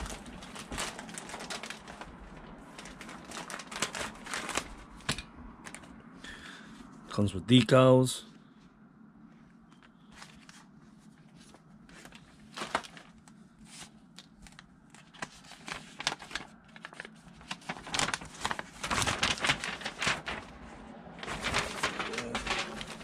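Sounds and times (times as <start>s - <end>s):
plastic crinkling: 0.0s - 6.0s, 9.6s - 23.0s.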